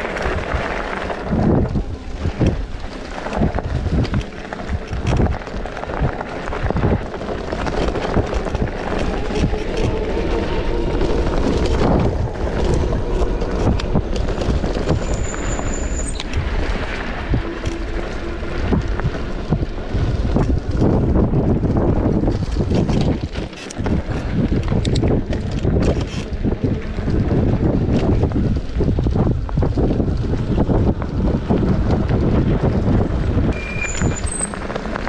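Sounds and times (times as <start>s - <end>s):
off-road vehicle engine running: 0.0s - 35.0s
wind buffeting on microphone: 0.0s - 35.0s.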